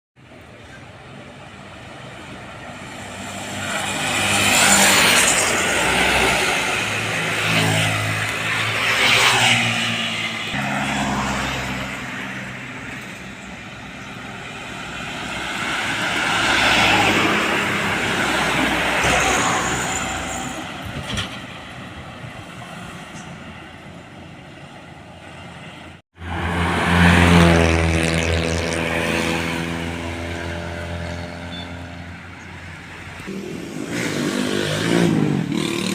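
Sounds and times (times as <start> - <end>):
tyres on road: 0.2 - 35.9
heavy trucks driving past: 0.5 - 35.9.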